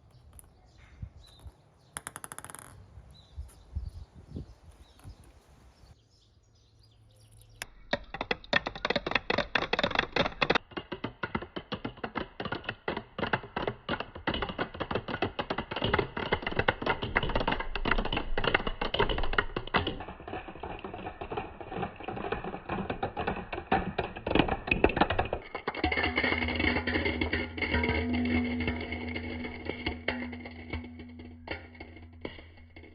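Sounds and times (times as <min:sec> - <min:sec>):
marbles clattering down a run: 0:01.3 - 0:02.8, 0:07.6 - 0:32.9.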